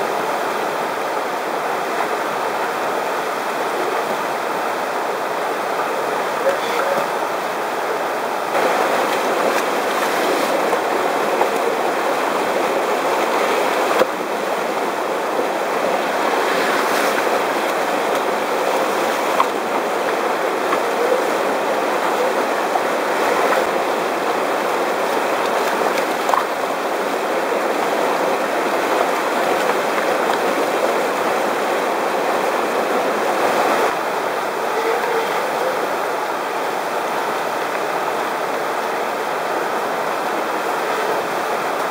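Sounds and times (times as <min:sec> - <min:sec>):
whitewater rapids rushing: 0:00.0 - 0:41.9.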